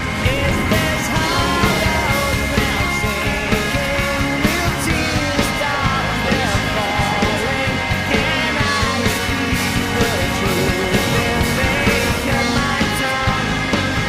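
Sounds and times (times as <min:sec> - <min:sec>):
rock band with singing: 0:00.0 - 0:14.0.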